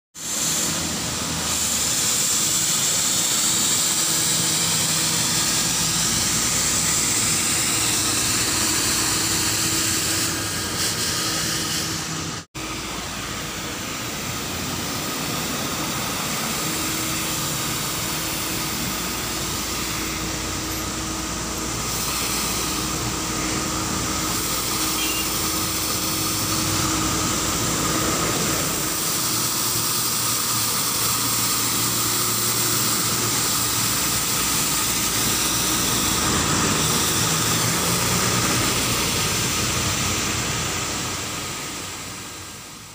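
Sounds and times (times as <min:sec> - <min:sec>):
street sweeper engine and fan drone: 0:00.2 - 0:42.9.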